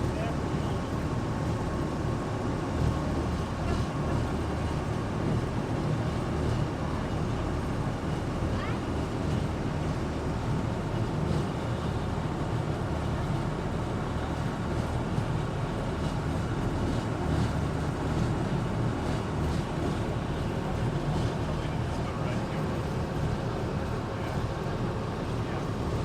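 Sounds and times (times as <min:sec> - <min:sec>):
wind and water noise: 0:00.0 - 0:26.0.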